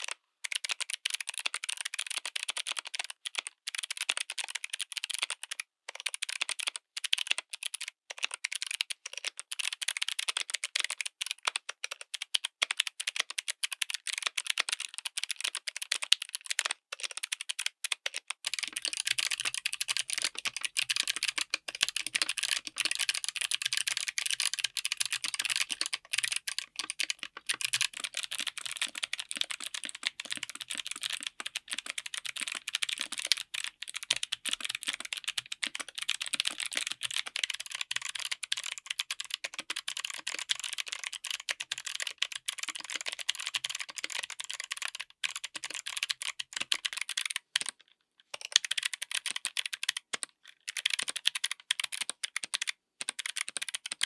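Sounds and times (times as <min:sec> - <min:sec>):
clicky mechanical keyboard typing: 0:06.0 - 0:47.8, 0:48.4 - 0:54.0.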